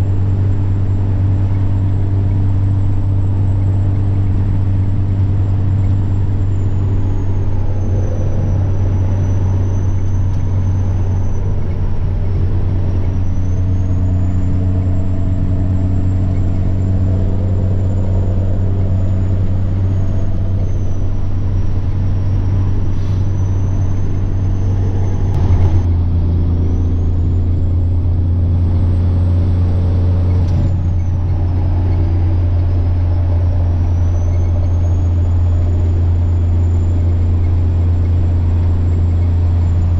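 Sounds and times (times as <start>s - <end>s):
truck diesel engine drone: 0.0s - 39.9s
turbocharger whining: 0.0s - 39.9s.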